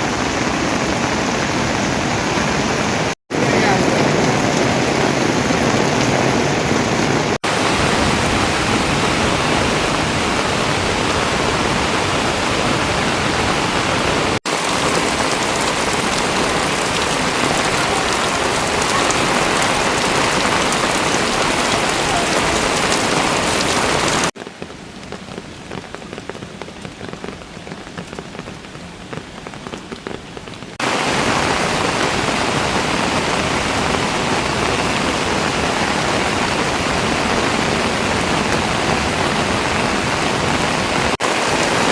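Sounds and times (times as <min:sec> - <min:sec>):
rain hissing: 0:00.0 - 0:41.9.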